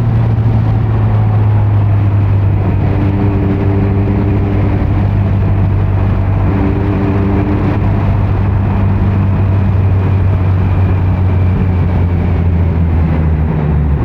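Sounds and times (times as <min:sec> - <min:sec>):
motorcycle engine low drone: 0:00.0 - 0:14.0.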